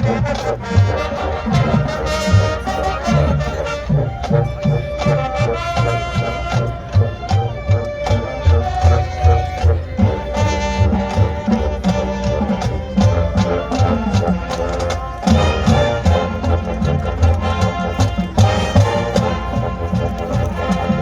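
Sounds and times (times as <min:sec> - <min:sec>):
marching band wind instruments: 0:00.0 - 0:21.0
steady drum beat: 0:00.0 - 0:21.0.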